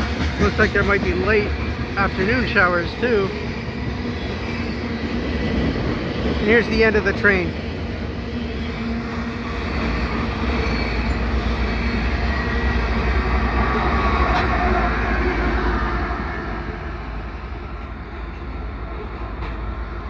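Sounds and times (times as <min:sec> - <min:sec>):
diesel locomotive passing: 0:00.0 - 0:20.0
freight train rolling past: 0:00.0 - 0:20.0.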